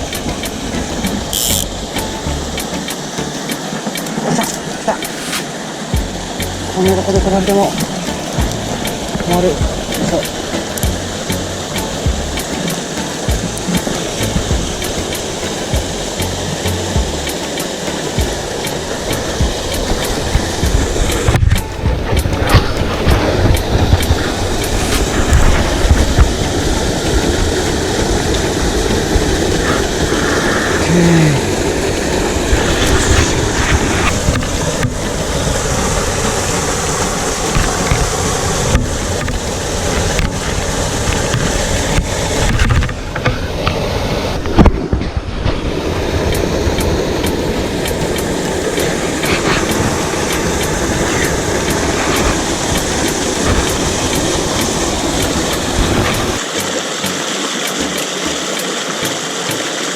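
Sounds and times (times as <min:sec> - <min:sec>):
fast-flowing creek rushing: 0:00.0 - 0:59.9.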